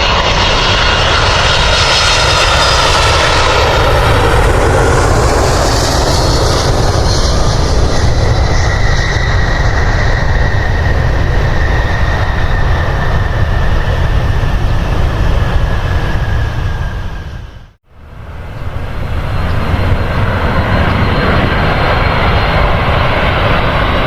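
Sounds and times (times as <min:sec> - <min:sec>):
jet engines rumbling and whining: 0:00.0 - 0:24.0.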